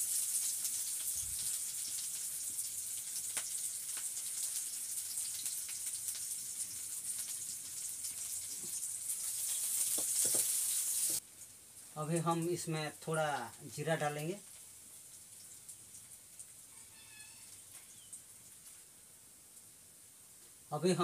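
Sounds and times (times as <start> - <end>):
onion sizzling in oil: 0.0 - 18.8.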